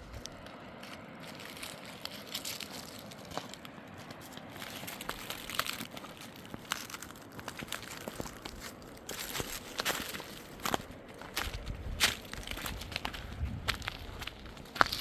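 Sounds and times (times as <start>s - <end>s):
dry material crunching and crackling: 0.0s - 15.0s.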